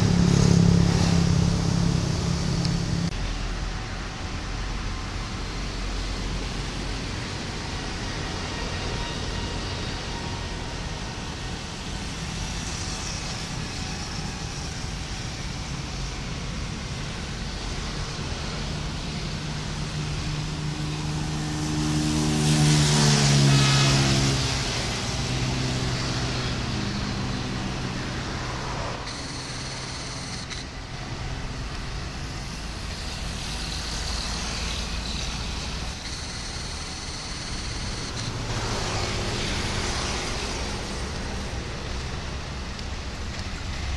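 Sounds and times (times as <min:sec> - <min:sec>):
diesel locomotive engine rumbling: 0:00.0 - 0:43.9.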